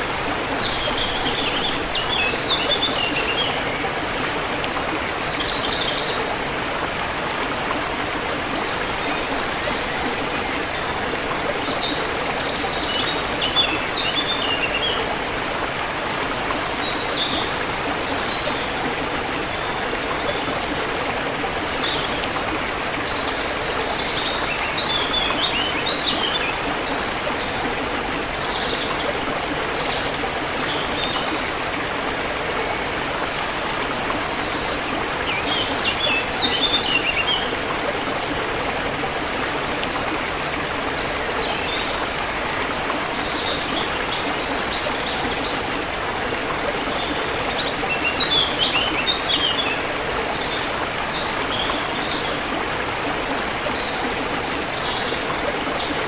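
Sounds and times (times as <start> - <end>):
forest stream rushing: 0.0 - 56.0.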